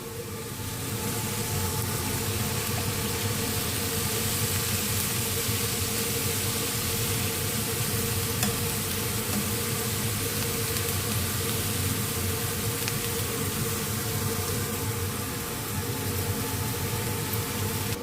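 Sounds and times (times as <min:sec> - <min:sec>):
food sizzling in a frying pan: 0:00.0 - 0:18.0
steady hum: 0:00.0 - 0:18.0.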